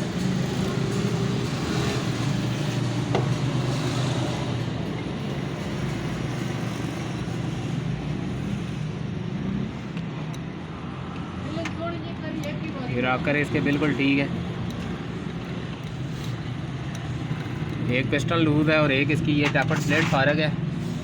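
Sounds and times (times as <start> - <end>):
traffic: 0.0 - 21.0.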